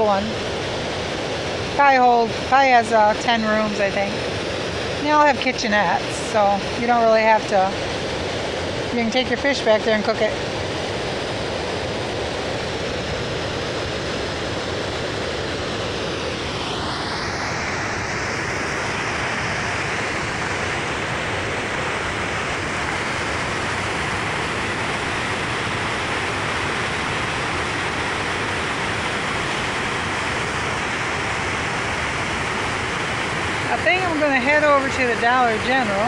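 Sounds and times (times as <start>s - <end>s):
water rushing over a spillway: 0.0s - 36.0s.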